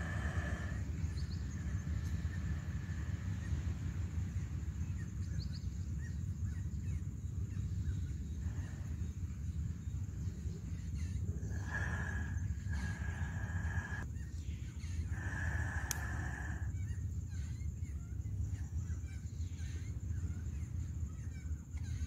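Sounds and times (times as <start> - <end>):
steady low rumble: 0.0 - 21.7.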